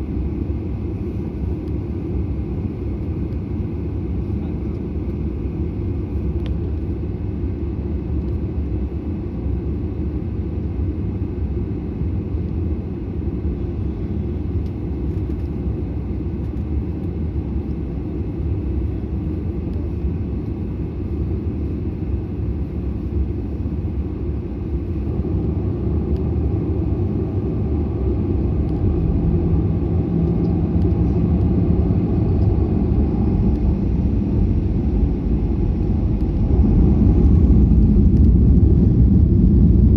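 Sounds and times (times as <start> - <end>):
jet airliner rumble: 0.0 - 39.9
low steady hum: 0.0 - 39.9.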